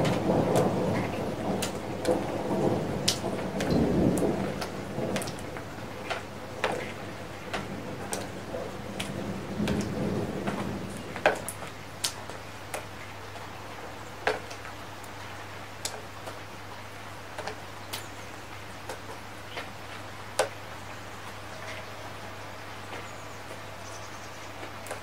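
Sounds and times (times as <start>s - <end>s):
raindrops ticking on hard surfaces: 0.0s - 25.0s.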